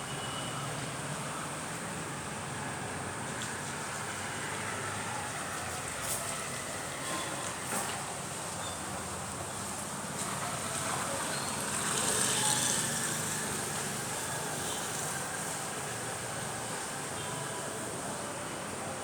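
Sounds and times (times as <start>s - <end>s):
distant road traffic: 0.0s - 19.0s.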